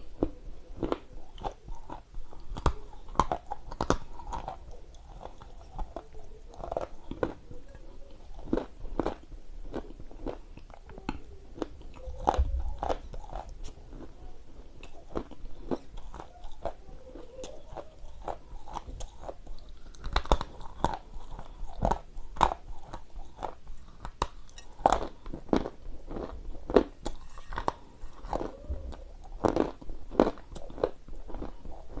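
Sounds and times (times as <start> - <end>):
crunching and chewing clay: 0.0 - 32.0.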